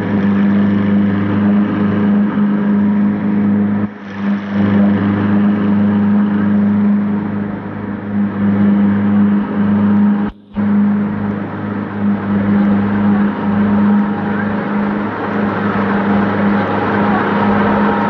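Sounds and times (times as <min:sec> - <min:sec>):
large engine humming: 0:00.0 - 0:18.0.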